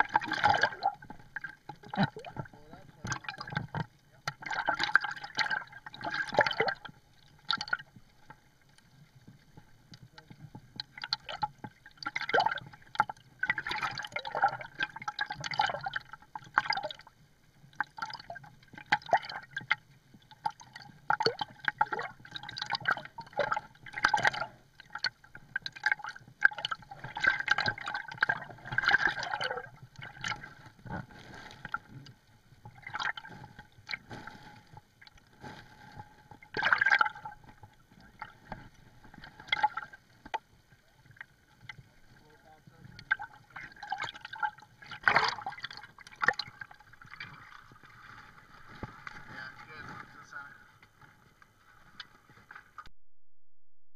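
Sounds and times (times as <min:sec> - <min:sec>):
underwater bubbling of exhaled air: 0:00.0 - 0:50.3.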